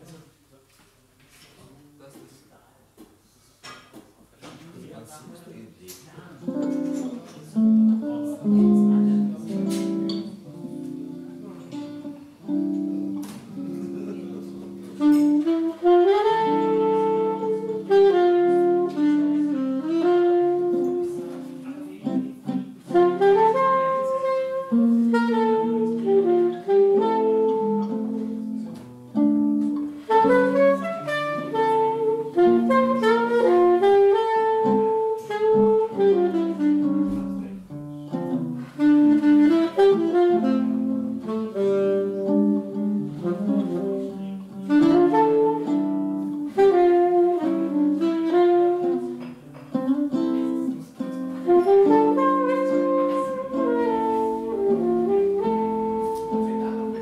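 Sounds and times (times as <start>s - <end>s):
alto saxophone jazz melody: 6.4s - 57.0s
nylon-string guitar chords: 6.4s - 57.0s.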